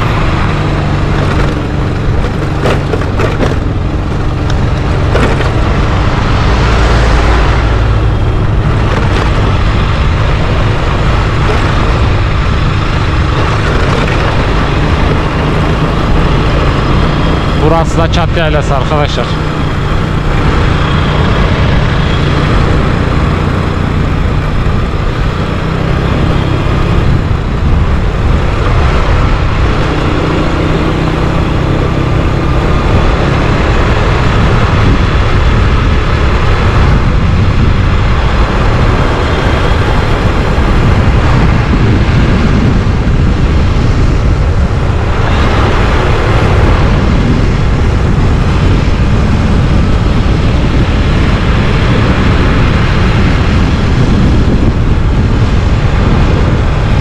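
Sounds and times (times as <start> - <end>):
motorcycle engine cruising: 0.0 - 57.0
wind rush on microphone: 0.0 - 57.0.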